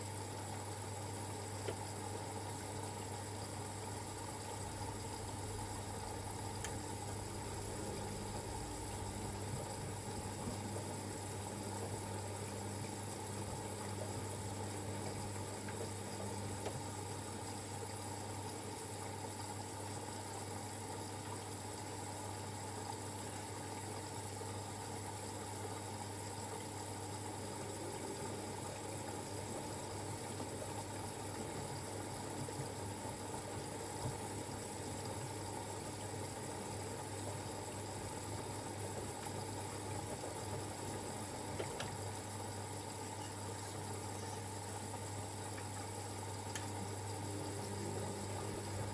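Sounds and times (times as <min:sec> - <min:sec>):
washing machine hum: 0:00.0 - 0:48.9.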